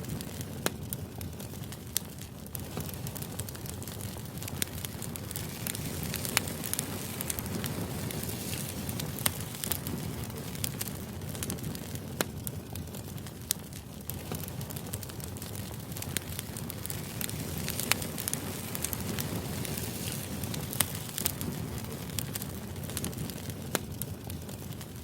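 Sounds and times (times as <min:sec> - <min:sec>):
sharp crackles and pops: 0:00.0 - 0:25.0.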